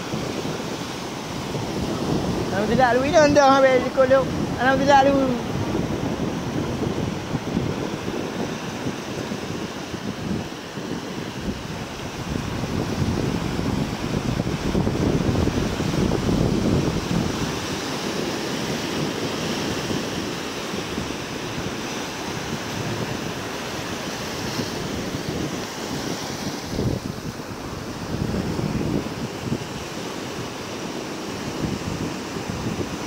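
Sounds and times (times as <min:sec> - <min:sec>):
surf breaking on sandy beach: 0:00.0 - 0:33.0
wind buffeting microphone: 0:00.0 - 0:33.0.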